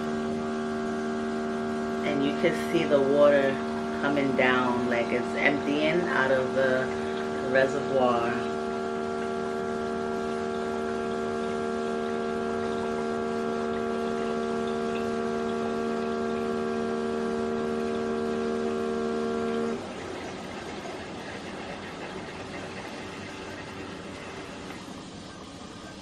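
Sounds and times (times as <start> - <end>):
coffee maker pump humming: 0.0 - 26.0.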